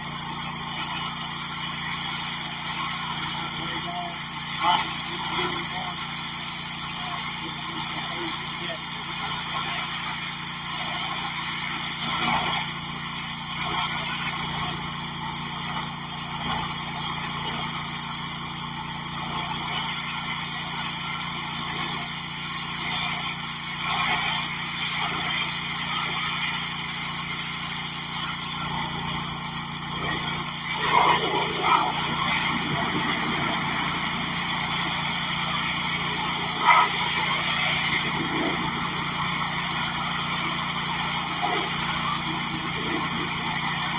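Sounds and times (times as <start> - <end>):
pressure washer running: 0.0 - 43.9.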